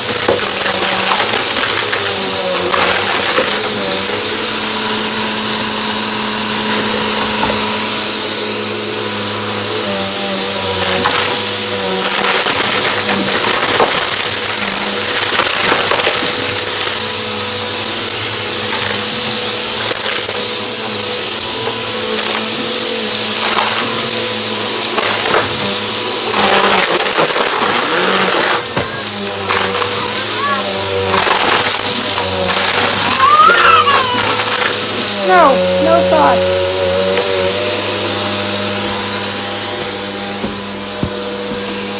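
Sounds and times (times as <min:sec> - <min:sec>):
debris crackling in vacuum: 0:00.0 - 0:41.9
vacuum cleaner running: 0:00.0 - 0:41.9.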